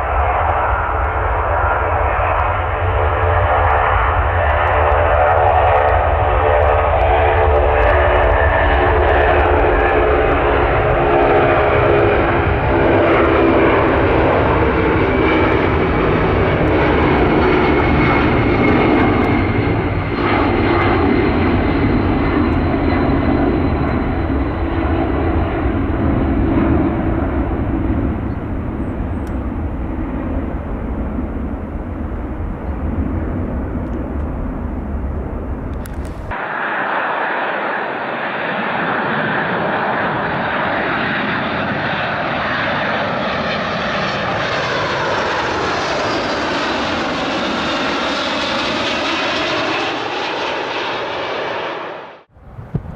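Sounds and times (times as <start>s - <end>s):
jet engines rumbling and whining: 0.0s - 52.9s.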